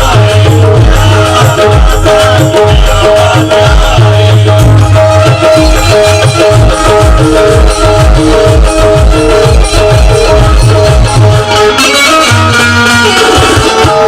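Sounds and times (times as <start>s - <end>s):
heavy bass drum pulses: 0.0s - 11.6s
shaken percussion: 0.0s - 12.1s.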